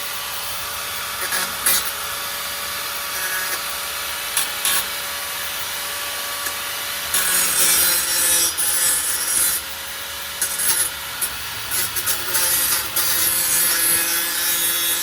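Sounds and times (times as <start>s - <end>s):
angle grinder whining: 0.0s - 15.0s
grinding wheel scraping steel: 0.0s - 15.0s
harsh hiss of grinding metal: 0.0s - 15.0s.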